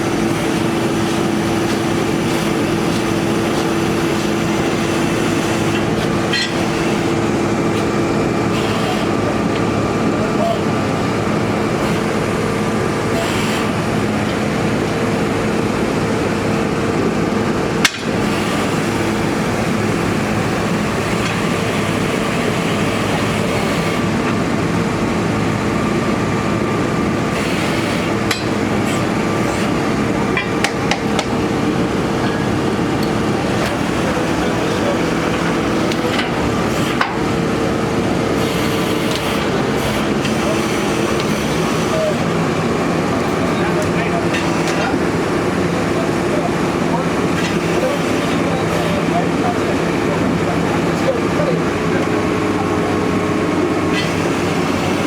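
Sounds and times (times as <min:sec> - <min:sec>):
drilling rig engine running: 0:00.0 - 0:55.0.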